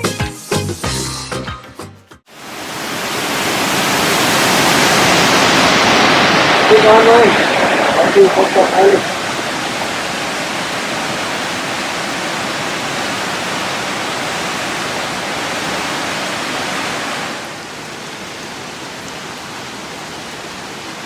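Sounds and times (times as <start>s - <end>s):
waterfall rushing: 2.3s - 21.0s.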